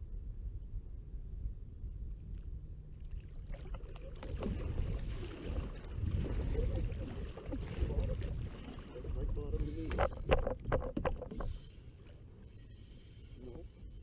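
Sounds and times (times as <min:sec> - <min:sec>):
low rumble: 0:00.0 - 0:12.0
water splashing and sloshing: 0:02.3 - 0:13.9.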